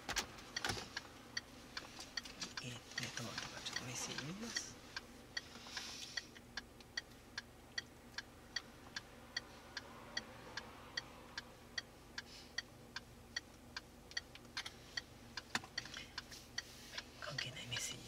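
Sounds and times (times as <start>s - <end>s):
faint hum of moving car: 0.0s - 18.0s
turn signal clicking: 0.0s - 18.0s.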